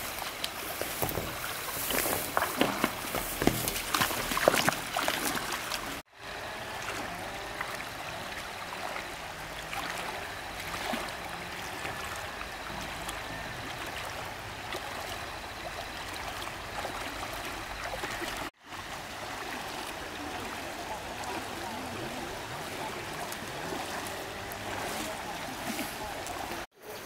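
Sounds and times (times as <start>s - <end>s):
water flowing and trickling: 0.0s - 27.0s.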